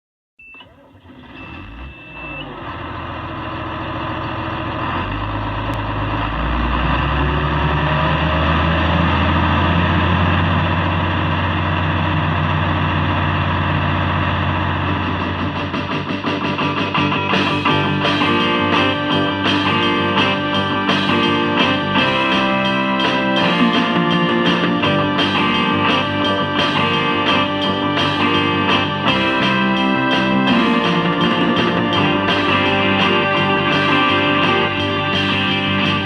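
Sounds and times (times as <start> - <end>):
tractor engine running: 0.6 - 36.0.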